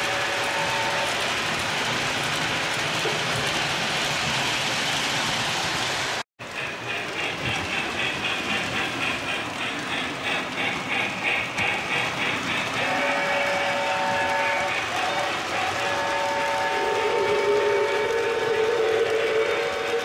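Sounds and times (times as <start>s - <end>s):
model train rolling rumble: 0.0s - 20.0s.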